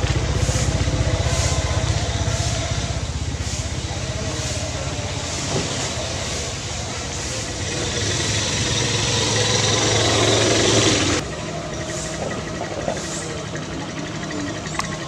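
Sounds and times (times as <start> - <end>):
motor engine running with hiss: 0.0 - 15.0.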